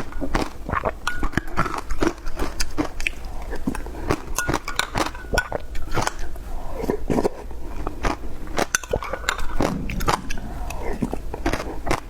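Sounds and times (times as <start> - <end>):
ice crunching while chewed: 0.0 - 10.8.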